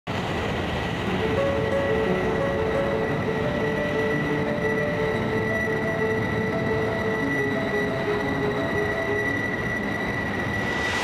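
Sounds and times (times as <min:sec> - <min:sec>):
jet engines rumbling and whining: 0:00.1 - 0:11.0
music with short held notes: 0:01.1 - 0:10.2.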